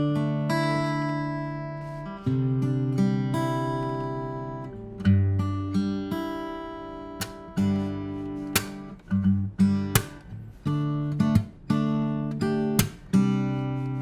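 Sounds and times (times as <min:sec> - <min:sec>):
fingerpicked acoustic guitar: 0:00.0 - 0:14.0.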